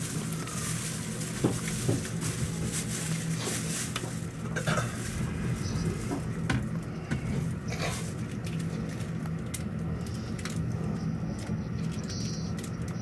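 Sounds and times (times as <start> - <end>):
train car hum: 0.0 - 13.0.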